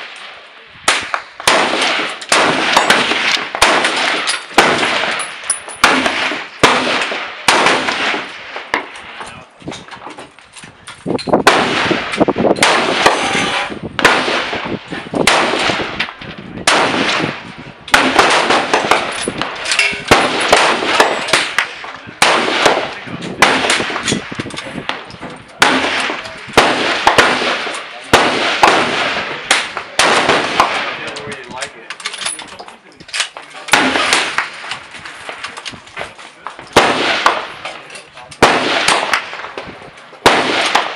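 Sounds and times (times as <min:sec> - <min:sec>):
distant gunshots: 0:00.0 - 0:09.0, 0:11.4 - 0:31.1, 0:33.7 - 0:35.4, 0:36.5 - 0:40.9
loud rifle shots echoing: 0:00.0 - 0:09.2, 0:11.4 - 0:31.2, 0:33.2 - 0:40.9.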